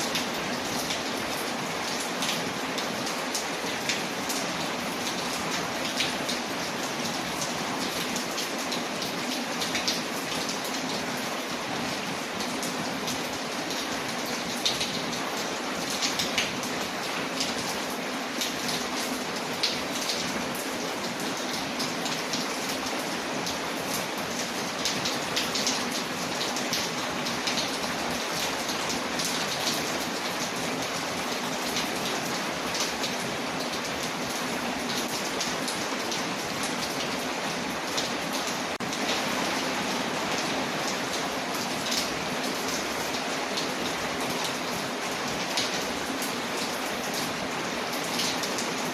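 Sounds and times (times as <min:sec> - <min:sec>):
rain on a window: 0:00.0 - 0:48.9.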